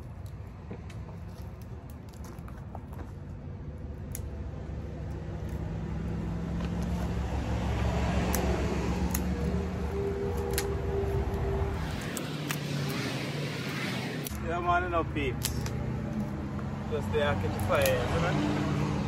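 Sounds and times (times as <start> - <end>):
dry sticks snapping: 0.0 - 13.0, 14.2 - 14.4, 15.3 - 16.8, 17.4 - 18.4
vehicle engine hum: 0.0 - 19.0.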